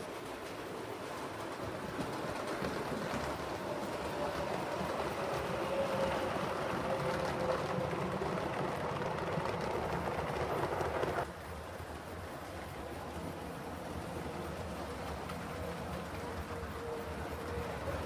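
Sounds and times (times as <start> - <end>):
model train running with hum: 0.0 - 18.0.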